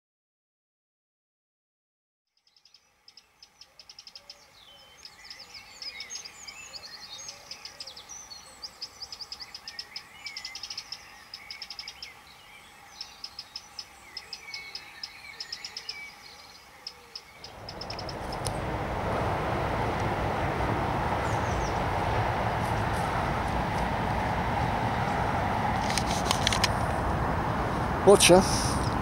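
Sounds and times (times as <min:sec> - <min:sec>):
birds chirping and trilling: 0:02.3 - 0:27.1
rush of outdoor noise: 0:03.4 - 0:29.0.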